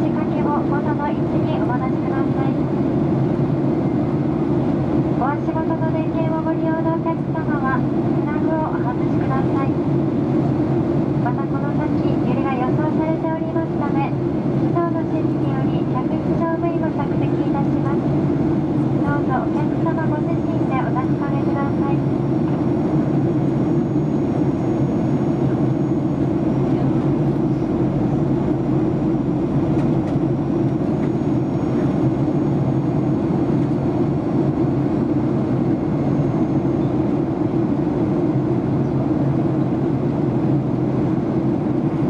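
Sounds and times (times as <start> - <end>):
jet airliner cabin rumble: 0.0 - 42.0.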